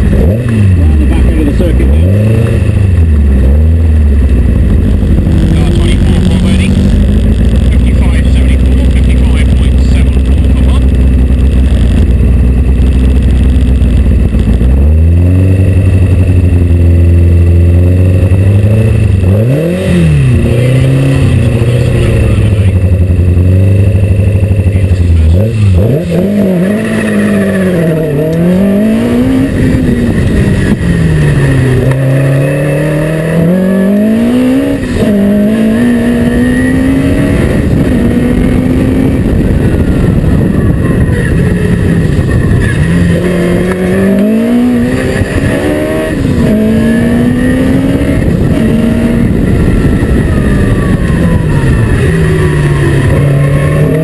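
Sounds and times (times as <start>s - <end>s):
car accelerating through gears: 0.0s - 54.0s
car engine idling and revving: 0.0s - 54.0s.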